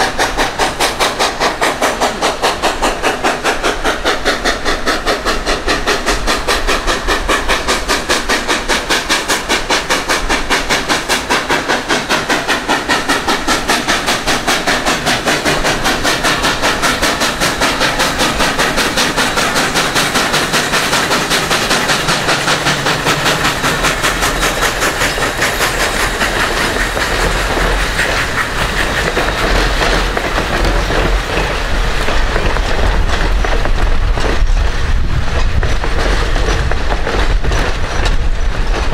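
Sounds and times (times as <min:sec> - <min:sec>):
steam locomotive exhaust chuffing: 0:00.0 - 0:38.9
train wheels rumbling on rail: 0:00.0 - 0:38.9.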